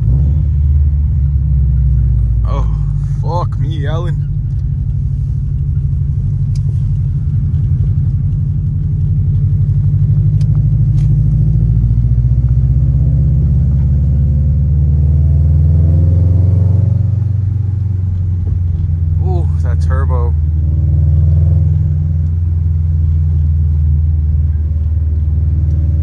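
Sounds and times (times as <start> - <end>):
turbocharged car engine pulling: 0.0 - 26.0.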